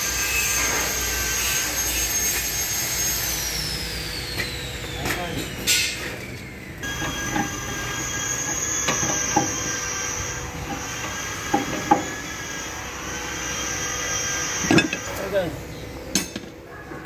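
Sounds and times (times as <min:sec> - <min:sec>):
high-pitched mechanical whine: 0:00.0 - 0:17.0.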